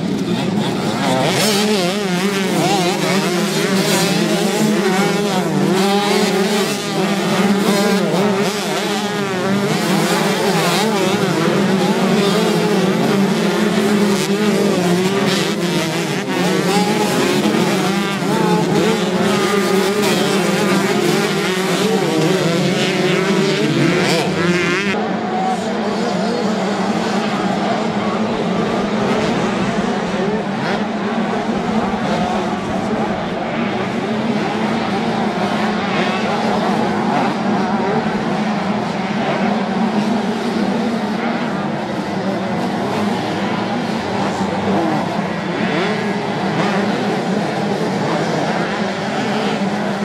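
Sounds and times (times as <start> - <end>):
motocross bike engines revving: 0.0 - 50.0.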